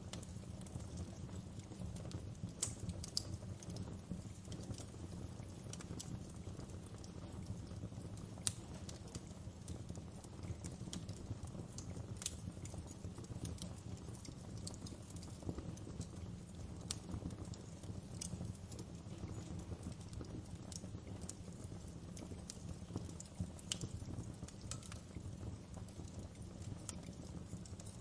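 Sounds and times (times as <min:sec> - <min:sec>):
fire flames rumbling: 0:00.0 - 0:28.0
logs crackling and popping: 0:00.0 - 0:28.0.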